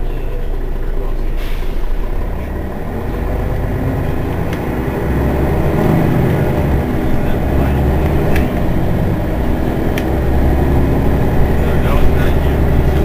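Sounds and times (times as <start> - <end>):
bus diesel engine idling: 0.0 - 13.0.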